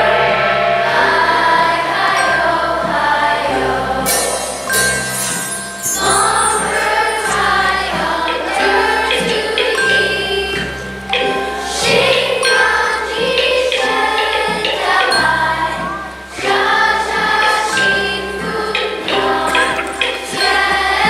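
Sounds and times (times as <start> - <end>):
choir singing a melody: 0.6 - 21.0.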